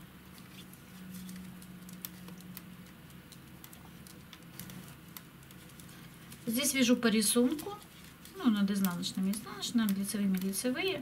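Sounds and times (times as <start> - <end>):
metal knitting needles clicking: 1.8 - 11.0.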